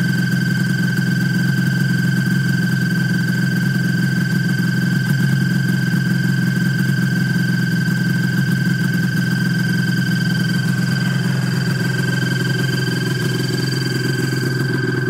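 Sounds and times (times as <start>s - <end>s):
high whine: 0.0s - 15.0s
snowmobile engine idling: 0.0s - 15.0s.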